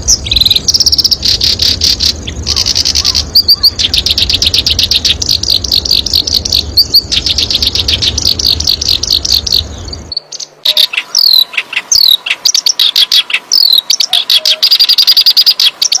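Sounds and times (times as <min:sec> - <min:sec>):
bird repeated high chirping: 0:00.0 - 0:16.0
bird whistles and trills: 0:00.0 - 0:16.0.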